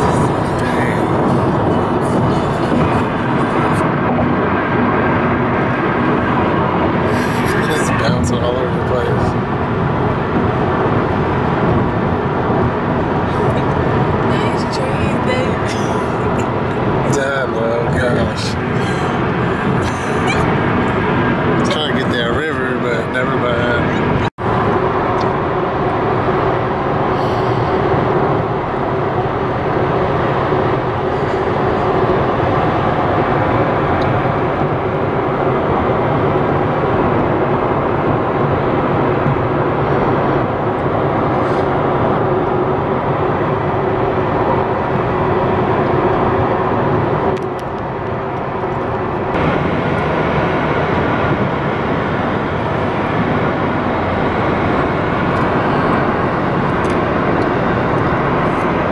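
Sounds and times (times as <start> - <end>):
car road and engine noise: 0.0 - 58.9.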